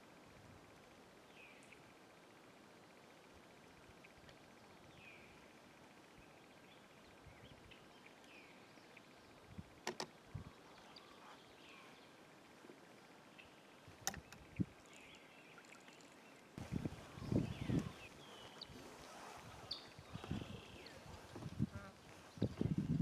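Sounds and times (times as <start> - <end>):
faint birds chirping: 0.7 - 23.0.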